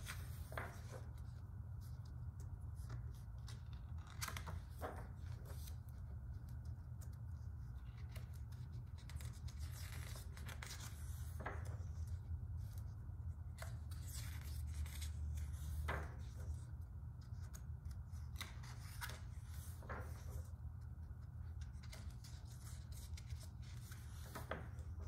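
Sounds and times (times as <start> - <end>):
book pages turning: 0.0 - 25.0.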